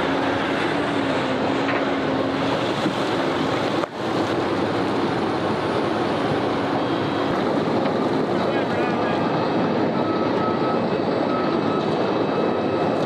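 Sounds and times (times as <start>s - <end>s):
diesel machinery engine hum: 0.0s - 13.0s
wind noise on microphone: 2.0s - 13.0s.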